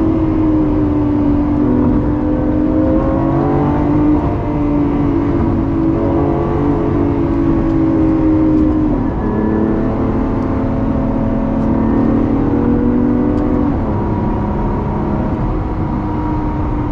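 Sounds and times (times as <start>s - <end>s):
car engine from inside cabin: 0.0s - 16.9s.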